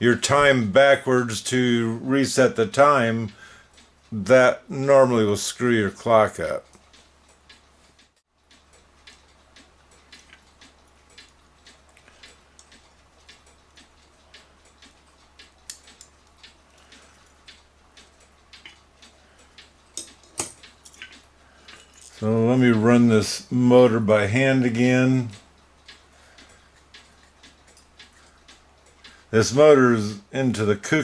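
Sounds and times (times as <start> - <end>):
clockwork clicks: 0.4 - 31.0.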